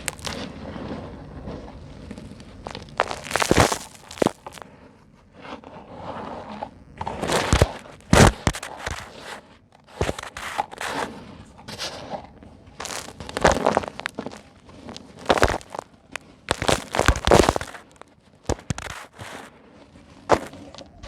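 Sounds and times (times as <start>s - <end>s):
dry concrete lumps crunching: 0.0s - 21.0s.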